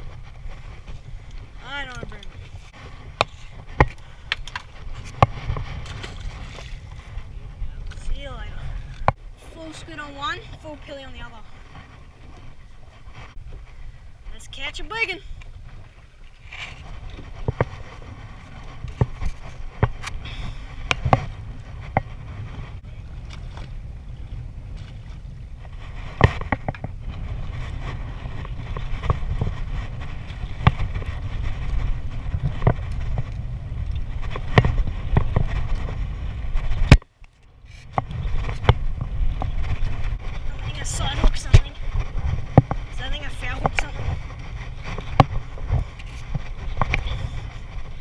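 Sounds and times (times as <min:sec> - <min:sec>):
water noise: 0:00.0 - 0:48.0
wind: 0:00.0 - 0:48.0.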